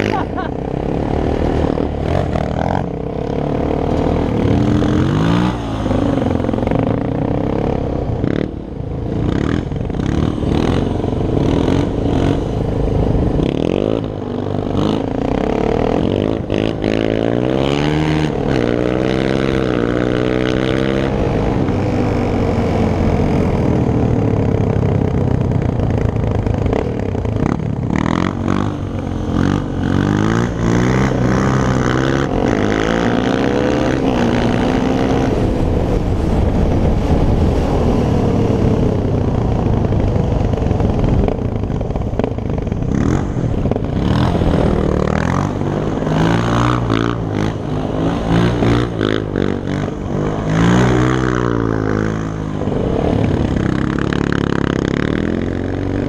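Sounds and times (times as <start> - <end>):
quad engine revving: 0.0 - 56.0
second quad engine running: 0.0 - 56.0.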